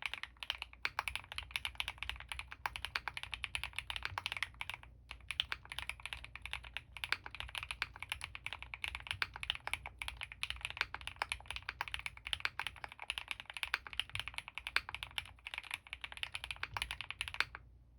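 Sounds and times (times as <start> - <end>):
mechanical keyboard typing: 0.0 - 17.6.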